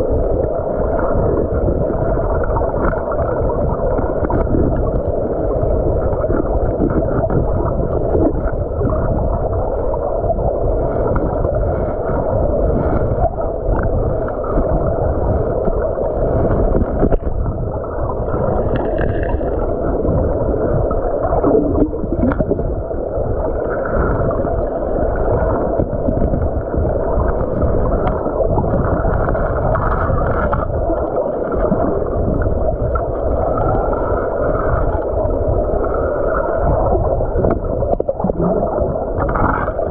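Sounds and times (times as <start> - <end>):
underwater stream churning: 0.0 - 39.9.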